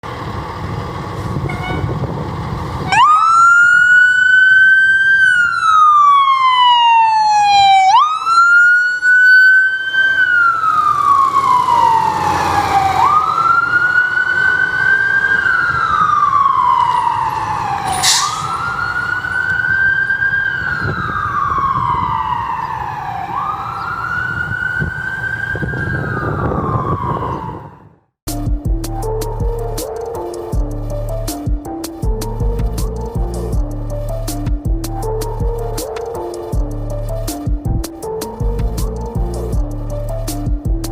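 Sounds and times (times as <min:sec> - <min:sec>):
fire truck siren wailing: 0:00.1 - 0:28.1, 0:29.0 - 0:40.9.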